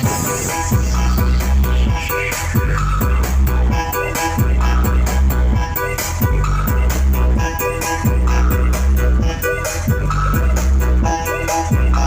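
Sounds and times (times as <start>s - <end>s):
deep bass line with pounding beat: 0.0s - 12.0s
loud dance music: 0.0s - 12.0s.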